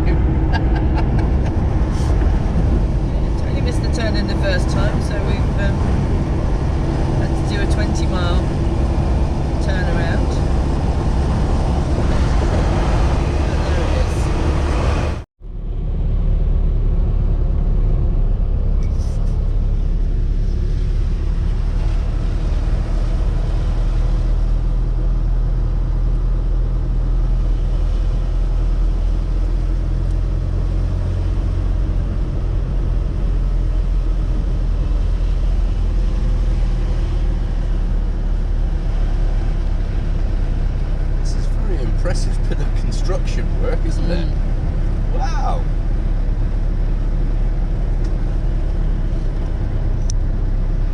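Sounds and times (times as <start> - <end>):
car engine rumble: 0.0 - 50.9
road noise: 0.0 - 50.9.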